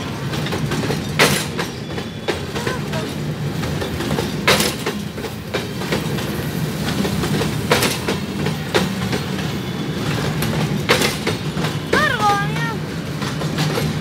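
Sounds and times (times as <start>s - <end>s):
train wheels rumbling on rails: 0.0s - 14.0s
wheels clacking over rail joints: 0.0s - 14.0s.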